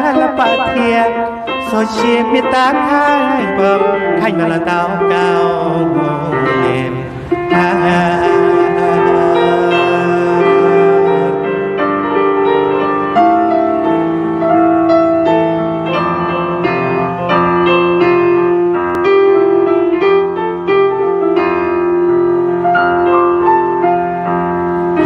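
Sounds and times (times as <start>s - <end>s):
digital piano playing: 0.0s - 25.0s.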